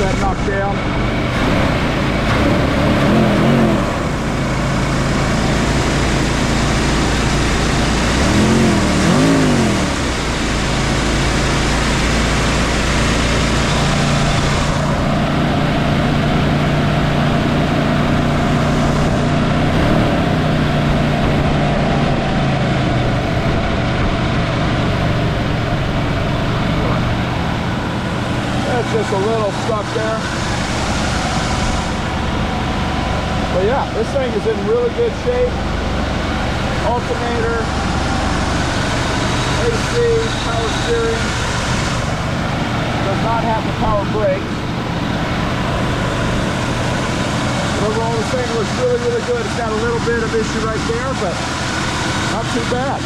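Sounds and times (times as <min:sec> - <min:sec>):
car engine idling and revving: 0:00.0 - 0:53.0.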